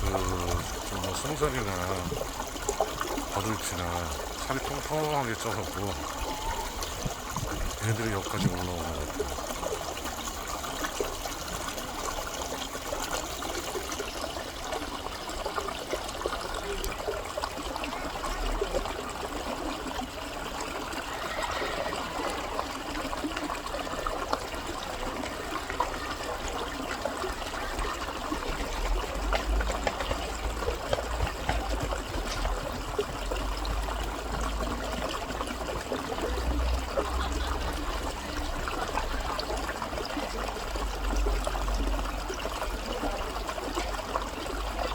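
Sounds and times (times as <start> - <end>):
stream water running over rocks: 0.0 - 44.9.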